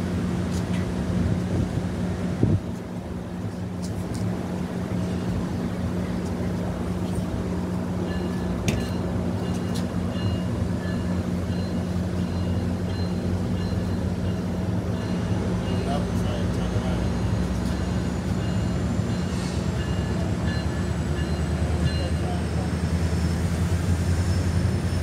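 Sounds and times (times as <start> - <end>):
train idling hum: 0.0 - 25.0.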